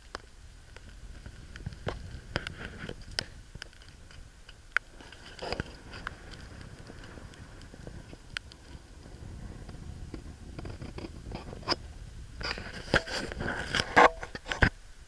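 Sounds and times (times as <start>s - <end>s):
light ticks and rustles: 0.0s - 14.8s
camera handling rumble: 0.8s - 11.8s, 12.4s - 14.7s.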